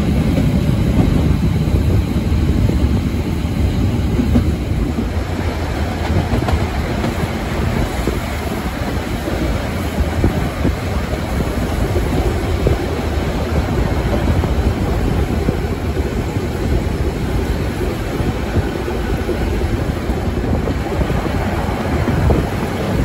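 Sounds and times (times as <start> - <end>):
train wheels rumbling and rattling: 0.0 - 23.0
wind: 0.0 - 23.0.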